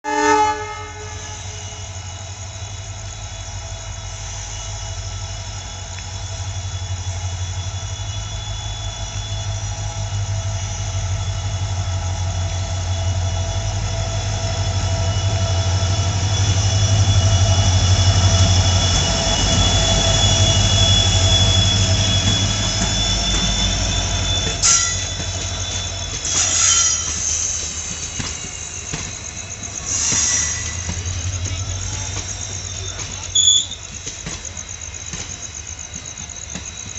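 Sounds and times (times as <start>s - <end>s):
train wheel squeal: 0.0s - 36.9s
locomotive engine drone: 0.5s - 36.9s.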